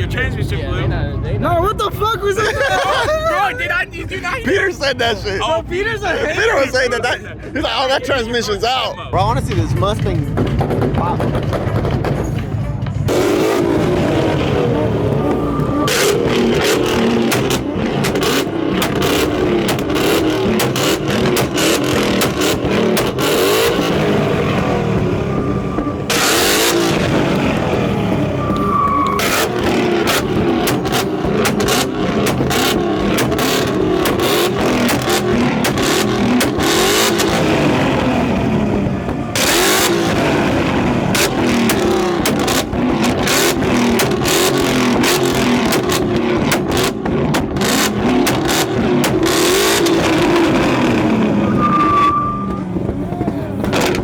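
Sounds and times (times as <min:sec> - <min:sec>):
car exhaust revving: 0:09.2 - 0:54.0
exhaust pops and crackles: 0:09.2 - 0:54.0.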